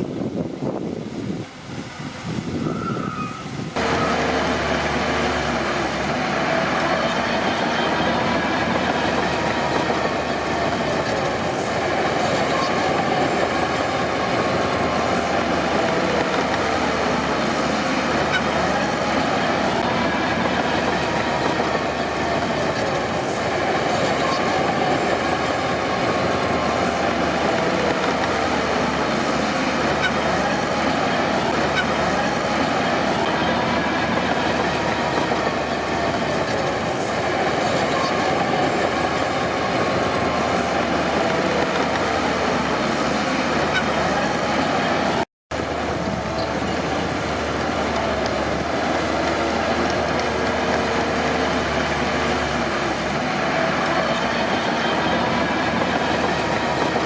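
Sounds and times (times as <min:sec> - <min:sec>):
wavering track squeal: 0:02.6 - 0:45.2, 0:46.2 - 0:57.0
steel tracks clanking: 0:02.7 - 0:57.0
diesel engine running: 0:03.7 - 0:57.0.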